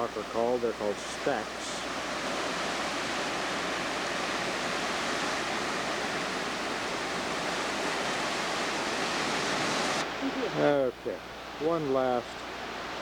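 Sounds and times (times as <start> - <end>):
ocean surf rushing onto shore: 0.0 - 13.0.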